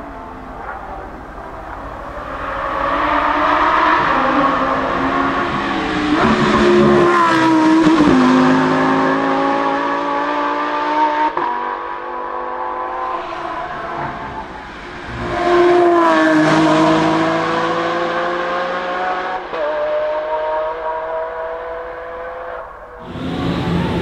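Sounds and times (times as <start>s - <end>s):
sports car engines accelerating: 0.0s - 24.0s.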